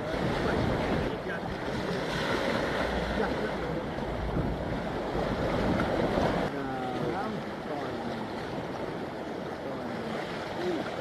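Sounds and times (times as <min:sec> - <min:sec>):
sea surf washing in: 0:00.0 - 0:11.0
wind gusting on microphone: 0:00.0 - 0:11.0.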